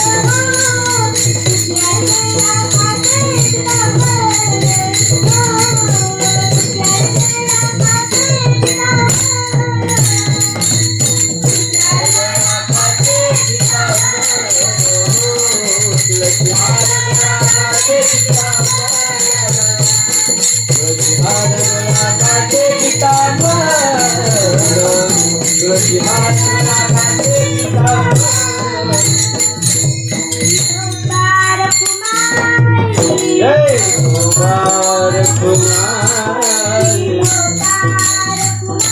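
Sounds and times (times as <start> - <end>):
jingling metallic cymbals: 0.0 - 38.9
woman singing devotional verses: 0.0 - 38.9.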